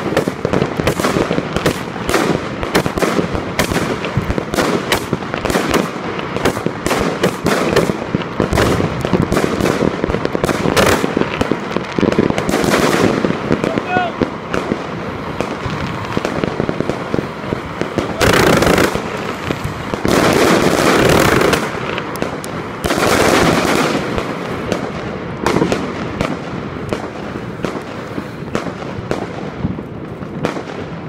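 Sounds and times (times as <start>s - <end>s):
fireworks shots and bursts: 0.0s - 31.0s.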